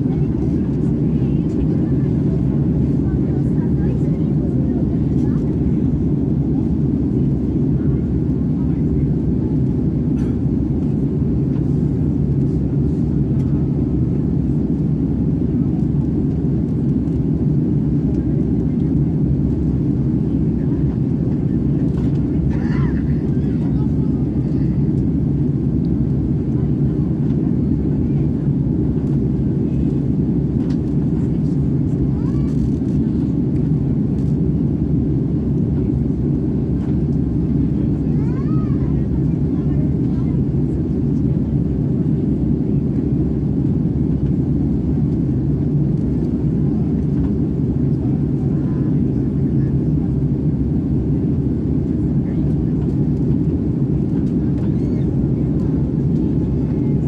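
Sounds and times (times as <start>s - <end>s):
aircraft cabin engine rumble: 0.0s - 57.0s
constant low hum: 0.0s - 57.0s.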